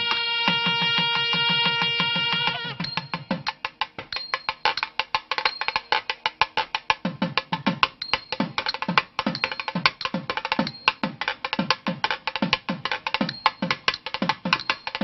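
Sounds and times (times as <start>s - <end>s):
sharp dry percussion strikes: 0.0s - 15.0s.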